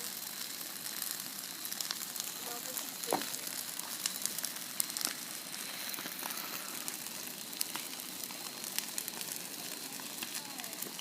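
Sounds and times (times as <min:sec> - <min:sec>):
bonfire hissing: 0:00.0 - 0:11.0
fire crackles and pops: 0:00.0 - 0:11.0.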